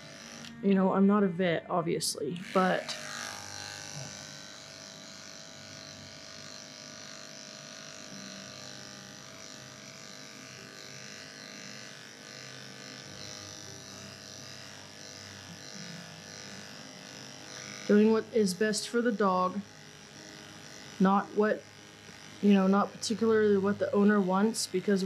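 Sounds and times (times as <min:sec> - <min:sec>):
electric clippers humming: 0:00.0 - 0:25.0.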